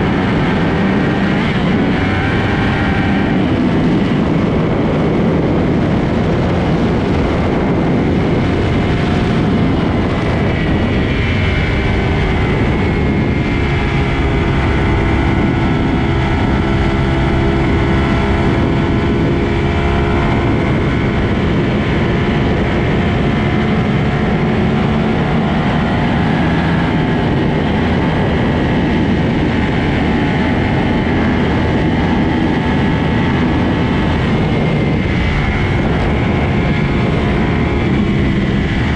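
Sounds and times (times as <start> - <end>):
motorcycle engine running hard: 0.0 - 38.9
wind rush: 0.0 - 38.9.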